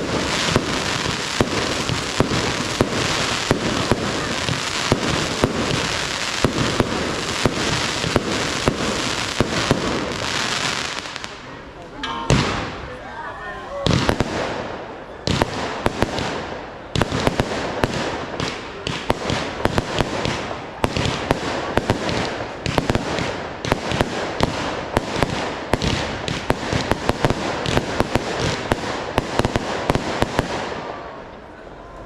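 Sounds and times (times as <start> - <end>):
fireworks bangs: 0.0 - 13.1, 13.8 - 32.0
fireworks crackling: 0.0 - 32.0.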